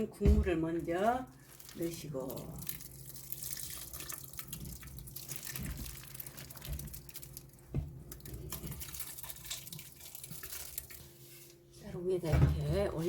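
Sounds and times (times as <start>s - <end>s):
juice dripping and splashing: 0.7s - 11.4s.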